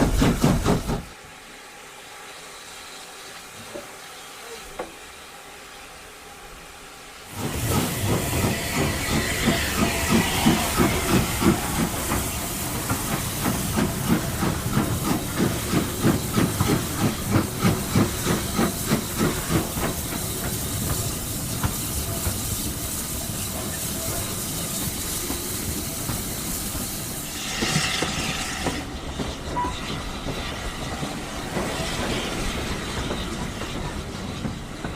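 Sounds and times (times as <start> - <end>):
steam locomotive exhaust beats: 0.0 - 1.2, 7.2 - 34.9
steam hiss: 0.0 - 34.9.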